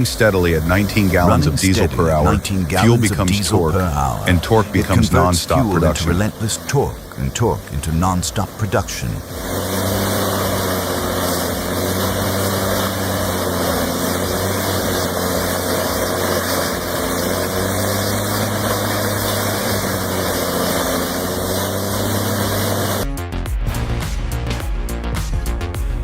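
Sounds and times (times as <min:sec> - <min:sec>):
mechanical machine noise: 0:00.0 - 0:23.0
wood shredder diesel engine humming: 0:00.0 - 0:23.1.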